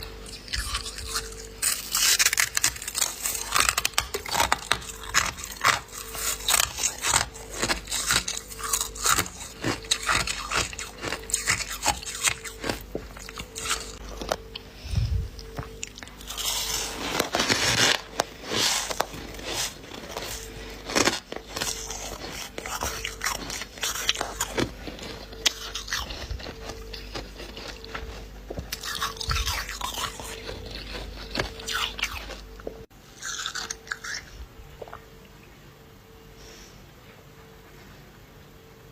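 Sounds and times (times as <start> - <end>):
person chewing crunchy ice: 0.0 - 35.0.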